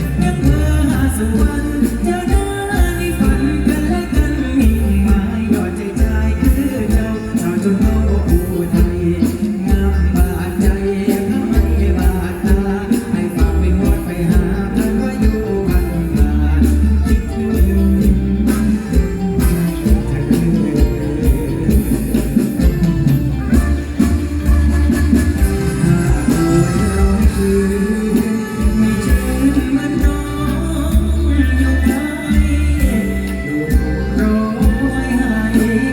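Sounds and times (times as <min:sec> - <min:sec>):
heavy pulsing bass: 0:00.0 - 0:35.9
live band music: 0:00.0 - 0:35.9
person singing: 0:00.0 - 0:35.9.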